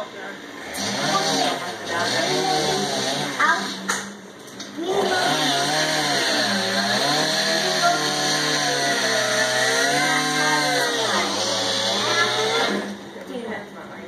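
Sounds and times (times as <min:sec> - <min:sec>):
chainsaw cutting: 0:00.6 - 0:03.8, 0:04.8 - 0:13.0.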